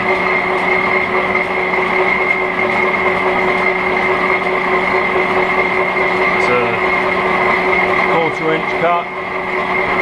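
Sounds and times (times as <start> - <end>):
metal lathe whining and humming: 0.0 - 10.0.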